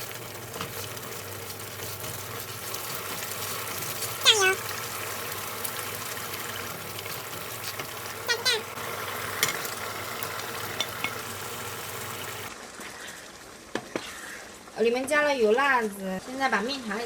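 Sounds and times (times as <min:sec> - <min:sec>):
tomatoes frying in oil: 0:00.0 - 0:17.0.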